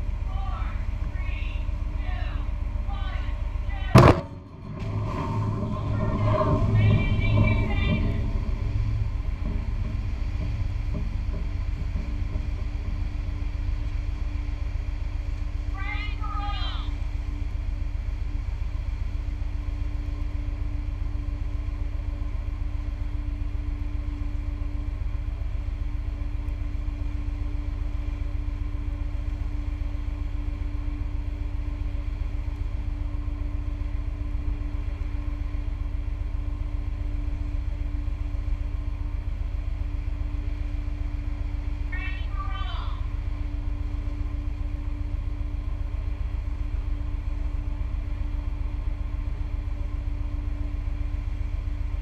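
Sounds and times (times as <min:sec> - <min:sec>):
ship machinery droning rumble: 0:00.0 - 0:52.0.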